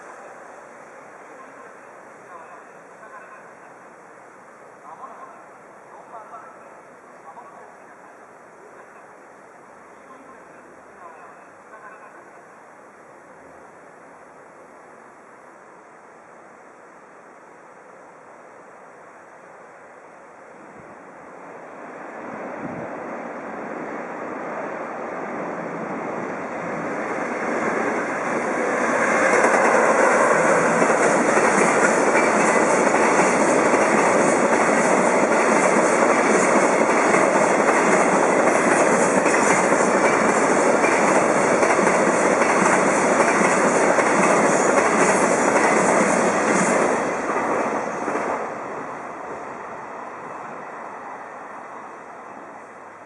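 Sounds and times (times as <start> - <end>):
freight train rumble: 0.0 - 53.0.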